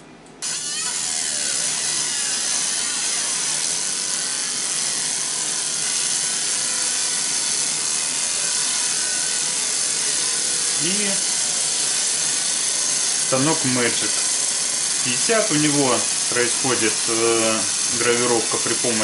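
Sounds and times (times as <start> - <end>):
laser engraver hissing: 0.4 - 19.0.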